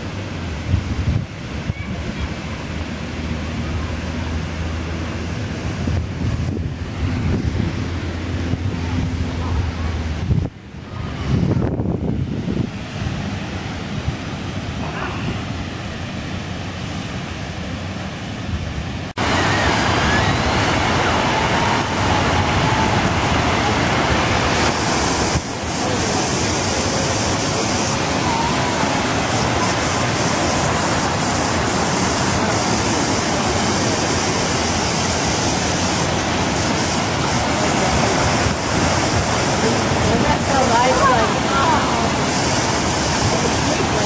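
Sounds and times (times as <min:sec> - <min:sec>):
outdoor ambience: 0:00.0 - 0:44.0.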